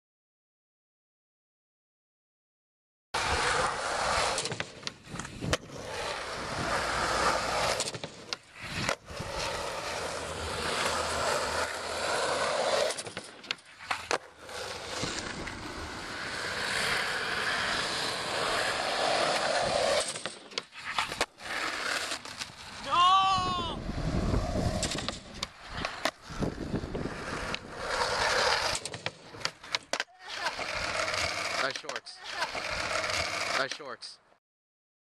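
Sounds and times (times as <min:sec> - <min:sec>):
skateboard wheels rolling on asphalt: 0:03.2 - 0:33.7.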